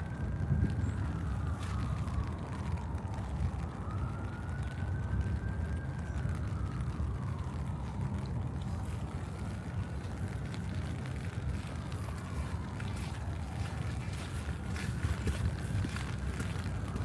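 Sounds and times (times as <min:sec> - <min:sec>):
city traffic rumble: 0:00.0 - 0:17.0
distant siren wailing: 0:00.0 - 0:17.0.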